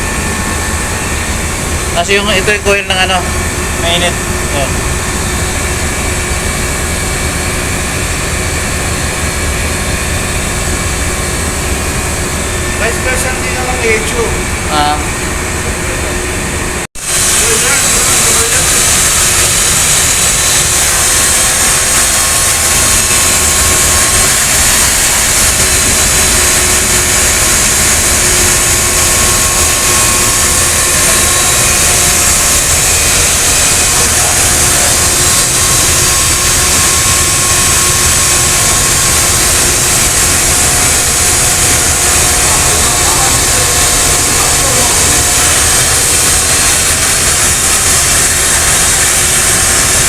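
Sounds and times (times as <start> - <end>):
fan rushing air: 0.0 - 50.0.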